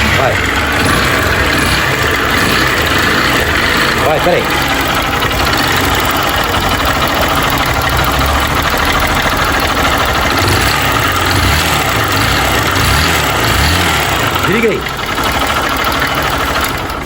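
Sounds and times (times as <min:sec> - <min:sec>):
motorcycle engine with clattering knock: 0:00.0 - 0:17.0.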